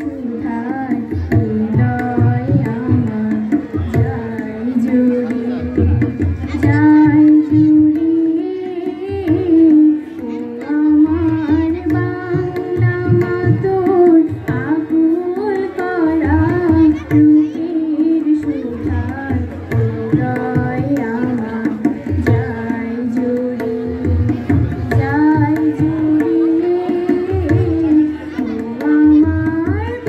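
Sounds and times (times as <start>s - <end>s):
tabla drum strokes: 0.0s - 30.0s
woman singing: 0.0s - 30.0s.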